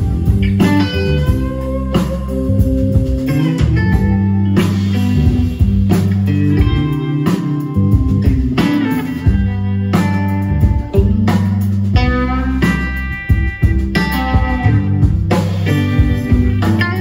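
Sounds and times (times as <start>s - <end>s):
bass guitar: 0.0s - 17.0s
drums: 0.0s - 17.0s
electric guitars: 0.0s - 17.0s.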